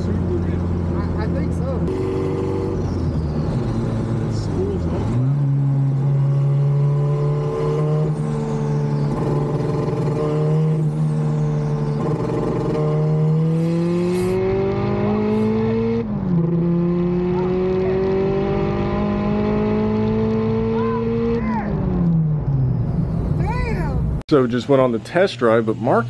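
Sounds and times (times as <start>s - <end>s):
car engine revving in gear: 0.0s - 23.4s.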